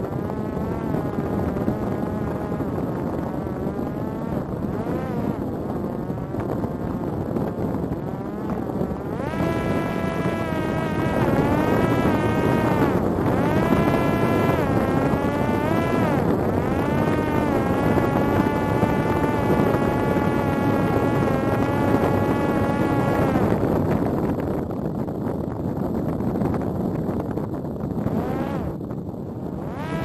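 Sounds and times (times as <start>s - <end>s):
electric propeller whining: 0.0s - 24.9s, 27.3s - 30.0s
wind rushing: 0.0s - 30.0s.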